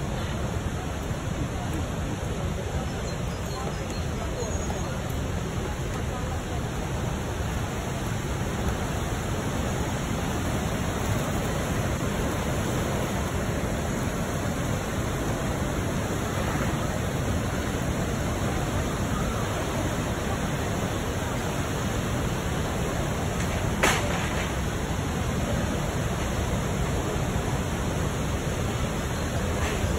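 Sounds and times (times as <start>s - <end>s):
river water over waterfall: 0.0s - 29.9s.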